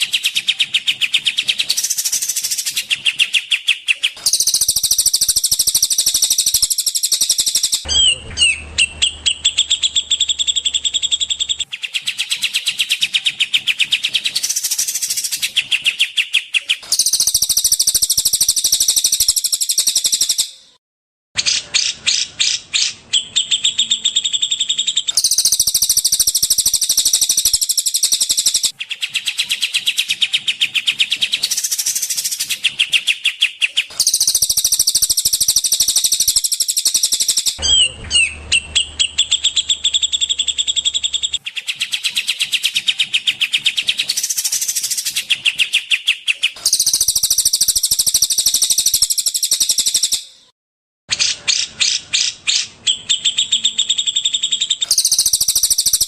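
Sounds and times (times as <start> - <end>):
songbirds singing chattering trills: 0.0 - 20.6, 21.8 - 50.3, 51.2 - 56.0.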